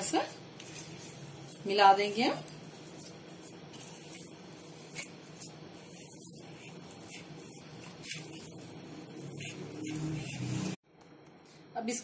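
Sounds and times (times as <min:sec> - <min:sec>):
dough scraping against metal plate: 0:00.0 - 0:10.8
hand kneading dough: 0:00.0 - 0:10.8.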